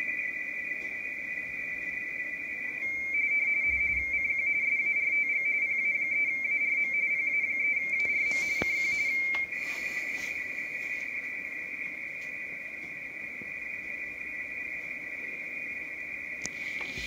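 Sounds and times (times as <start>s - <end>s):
narrow radio hiss: 0.0s - 17.0s
warbling two-pitch radio tone: 0.0s - 17.0s.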